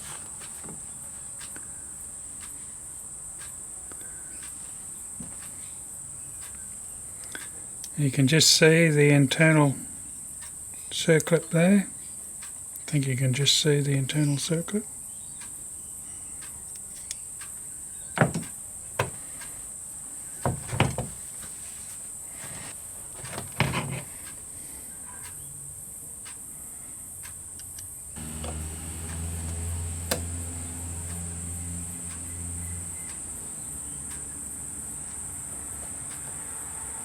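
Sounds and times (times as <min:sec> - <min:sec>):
high-pitched hiss: 0:00.0 - 0:23.1, 0:23.9 - 0:37.0.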